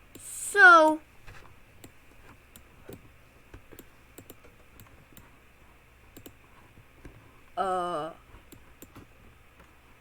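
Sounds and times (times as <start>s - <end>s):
computer mouse and keys clicking: 0.0s - 5.4s, 6.1s - 7.3s, 8.3s - 9.9s
low steady hum: 0.0s - 10.0s.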